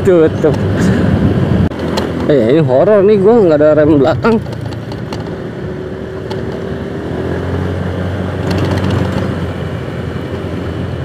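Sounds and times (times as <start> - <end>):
wind and road noise: 0.0 - 11.0
scooter engine running: 1.7 - 11.0.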